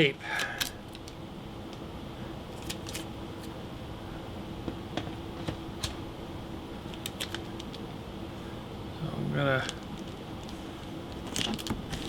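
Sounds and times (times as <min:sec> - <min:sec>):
steady tonal hum: 0:00.0 - 0:12.0.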